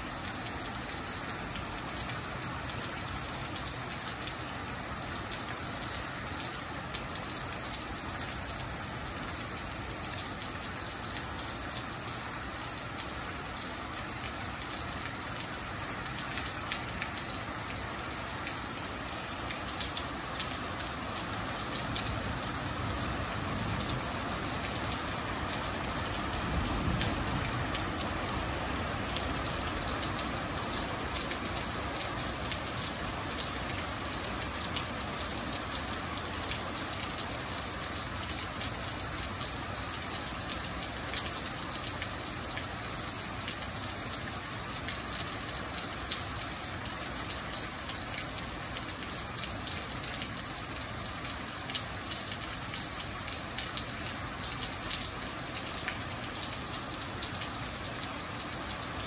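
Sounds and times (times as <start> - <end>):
steady rain pouring: 0.0 - 59.0.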